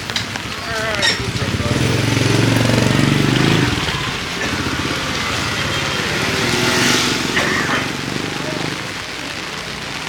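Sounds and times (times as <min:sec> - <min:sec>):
small motorbike engine running: 0:00.0 - 0:08.9
street noise: 0:00.0 - 0:10.0.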